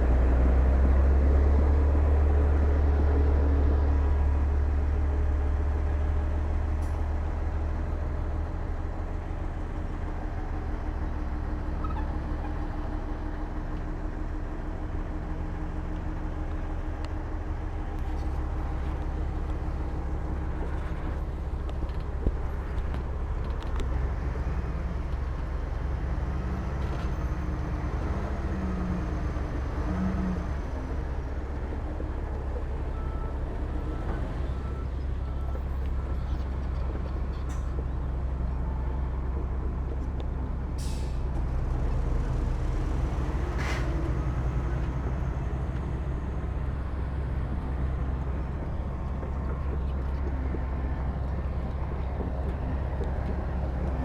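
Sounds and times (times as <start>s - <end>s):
heavy diesel machinery droning: 0.0s - 54.0s.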